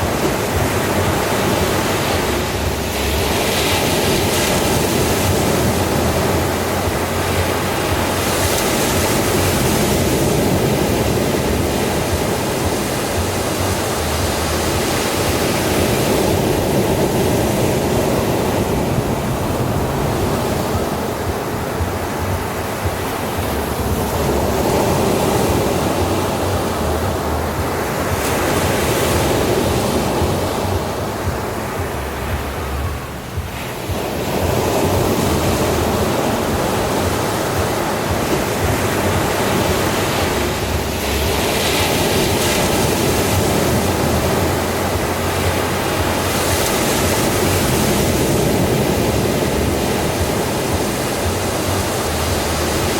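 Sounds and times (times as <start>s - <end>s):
sea waves breaking on beach: 0.0s - 52.9s.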